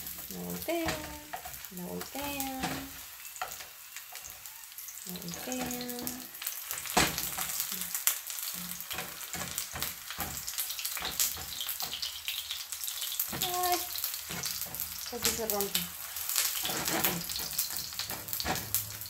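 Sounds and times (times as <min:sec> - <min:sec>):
tortillas sizzling in a skillet: 0:00.0 - 0:19.0.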